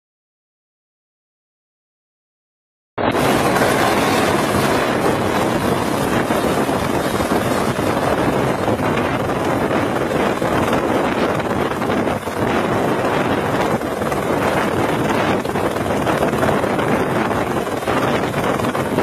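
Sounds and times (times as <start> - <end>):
helicopter hovering: 3.0 - 19.0
wind buffeting microphone: 3.0 - 19.0.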